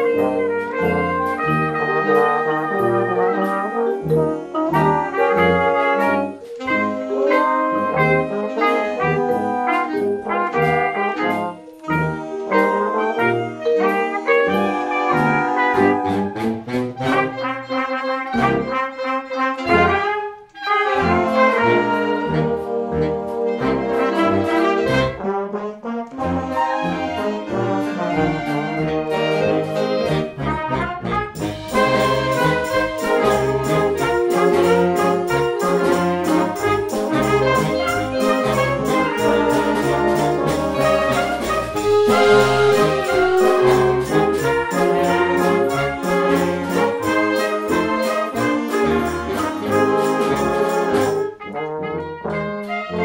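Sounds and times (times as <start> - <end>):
wind band playing: 0.0 - 53.0.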